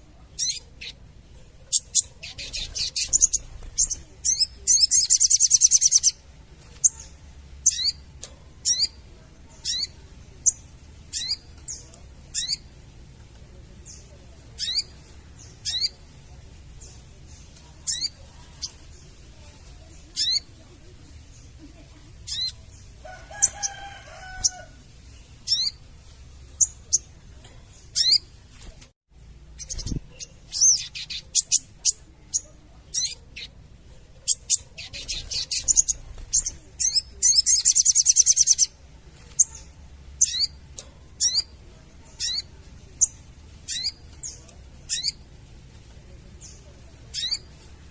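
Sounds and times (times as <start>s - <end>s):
bird chattering and chirping: 0.1s - 12.9s, 13.8s - 25.9s, 26.5s - 28.4s, 29.5s - 45.6s, 46.3s - 47.9s.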